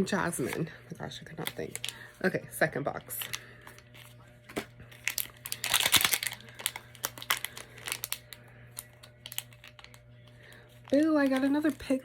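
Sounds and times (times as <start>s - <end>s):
packaging crinkling and tearing: 1.3s - 2.1s, 3.1s - 12.0s.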